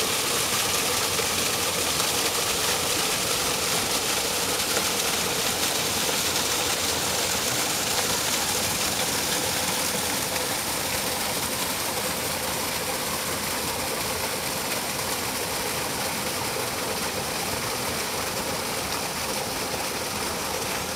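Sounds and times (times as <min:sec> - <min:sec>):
stream running over rocks: 0:00.0 - 0:20.9.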